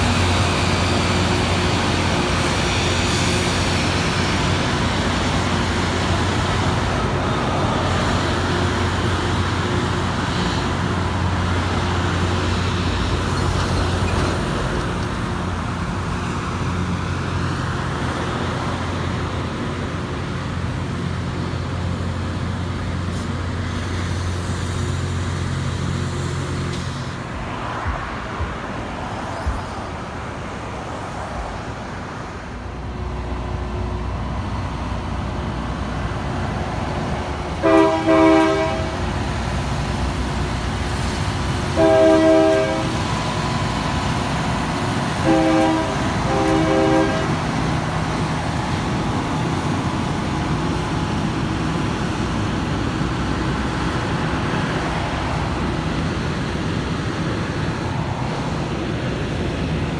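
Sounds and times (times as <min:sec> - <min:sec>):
diesel engines humming: 0:00.0 - 0:59.9
rail grinder train roaring: 0:00.0 - 0:59.9.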